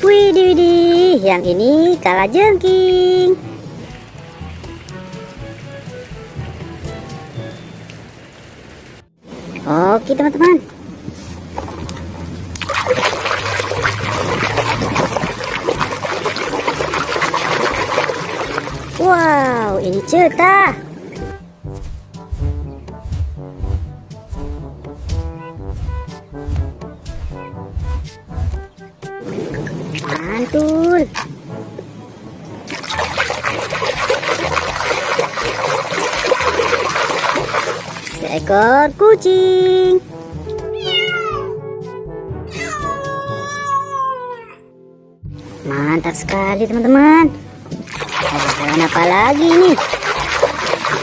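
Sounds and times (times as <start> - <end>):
water running and splashing: 0.0 - 40.6, 45.4 - 51.0.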